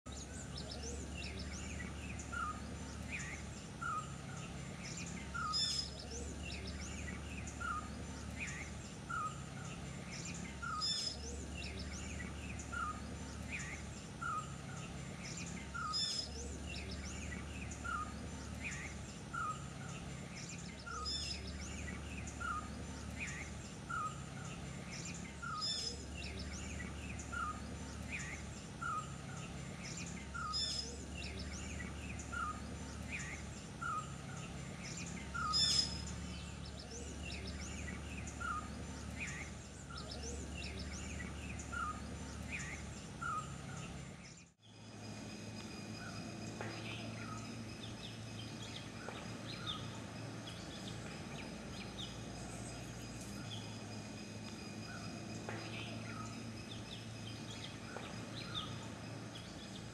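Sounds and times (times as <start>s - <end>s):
birds calling: 0.1s - 59.9s
steady background hiss: 0.1s - 59.9s.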